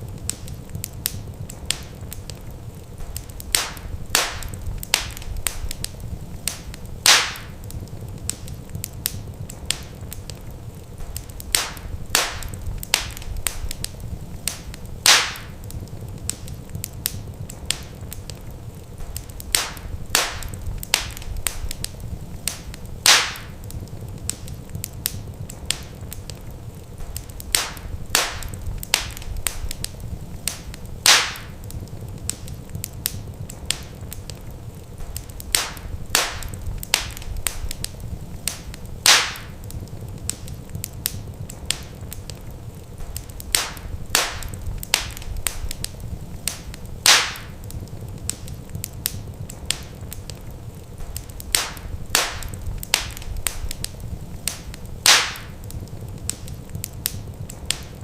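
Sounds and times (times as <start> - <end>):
fire low rumble: 0.0 - 58.0
wood fire crackling: 0.0 - 58.0.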